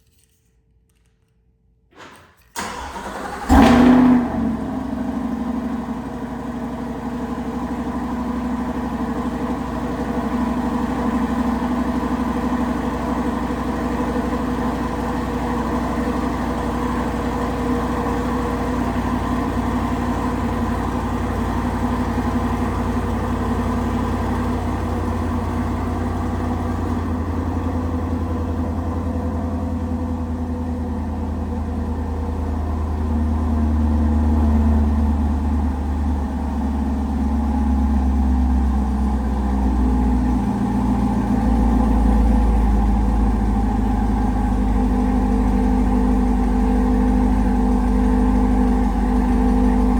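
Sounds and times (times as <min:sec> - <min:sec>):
car engine starting and idling: 0:02.0 - 0:49.9.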